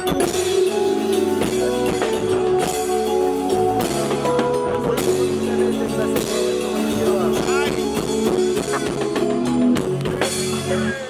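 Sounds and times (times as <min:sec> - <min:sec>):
drum kit beat: 0:00.0 - 0:11.0
held guitar and keyboard notes: 0:00.0 - 0:11.0.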